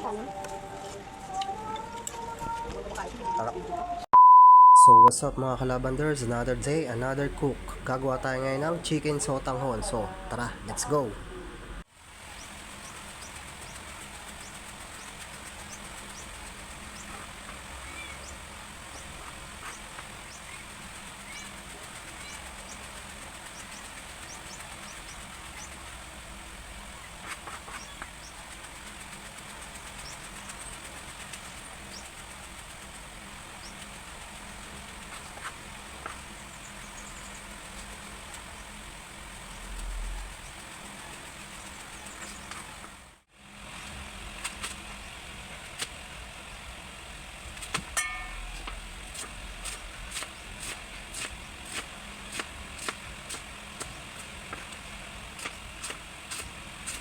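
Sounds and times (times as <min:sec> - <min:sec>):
steady background noise: 0:05.1 - 0:57.0.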